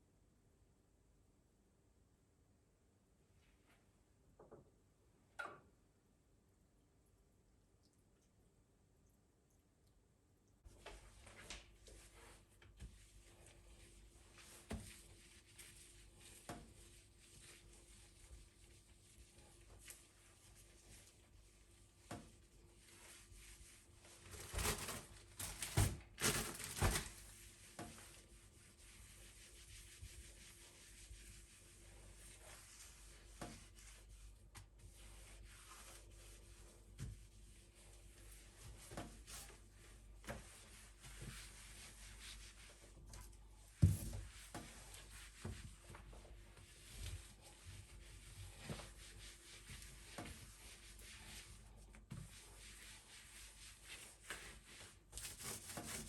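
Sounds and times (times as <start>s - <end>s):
objects rubbed and rustled: 10.7s - 56.0s.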